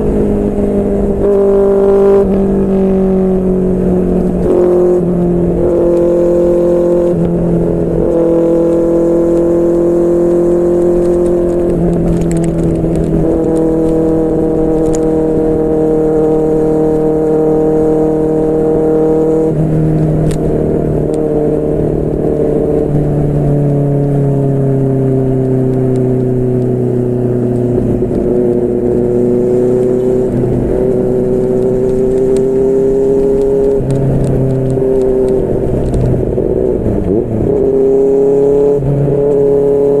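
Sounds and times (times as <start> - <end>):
motorcycle engine cruising: 0.0 - 40.0.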